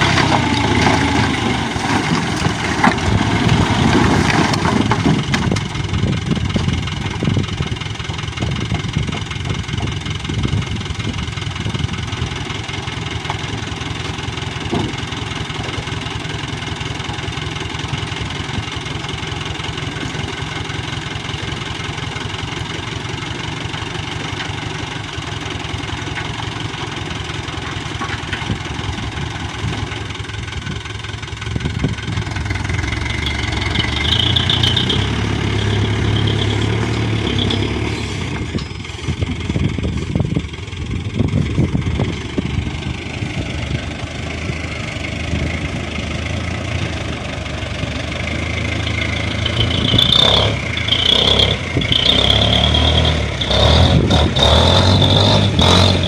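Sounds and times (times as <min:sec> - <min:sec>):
truck diesel engine: 0:00.0 - 0:56.0.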